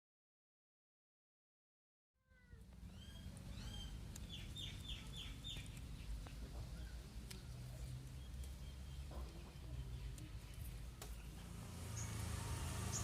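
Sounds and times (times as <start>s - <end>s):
small birds chirping: 2.2s - 13.0s.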